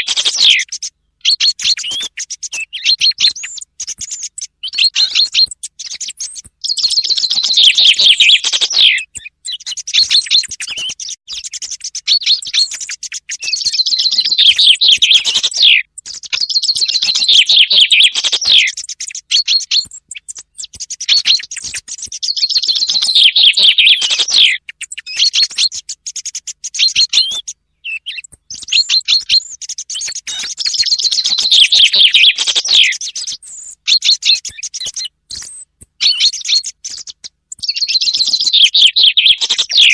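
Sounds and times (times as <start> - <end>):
chaffinch song trill: 0.0 - 39.9.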